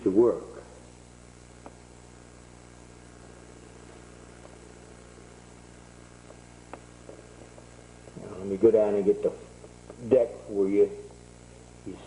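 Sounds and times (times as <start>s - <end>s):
low steady hum with hiss: 0.0s - 12.0s.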